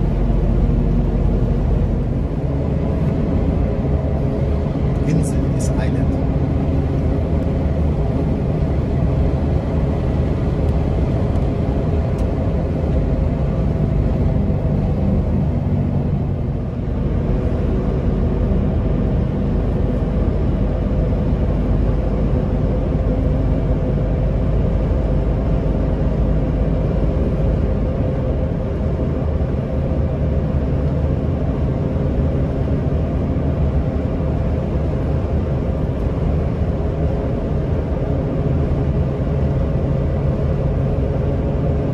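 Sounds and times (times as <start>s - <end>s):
road rumble: 0.0s - 41.9s
vehicle engine hum: 0.0s - 41.9s.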